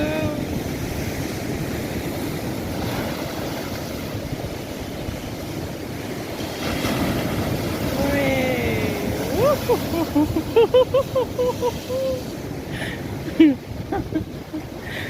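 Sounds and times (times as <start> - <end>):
surf breaking: 0.0 - 12.8
wind blowing across microphone: 0.0 - 15.0.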